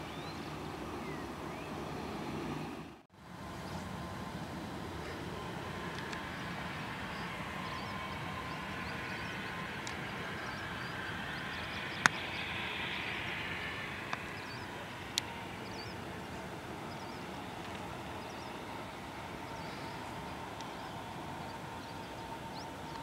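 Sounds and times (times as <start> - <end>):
distant jet engines whining: 0.0 - 23.0.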